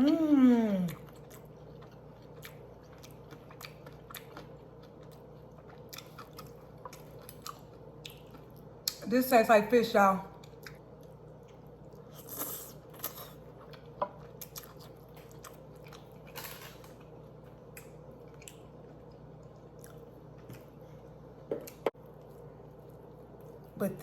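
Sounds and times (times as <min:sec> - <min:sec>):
person chewing: 0:00.0 - 0:09.0, 0:10.4 - 0:20.8.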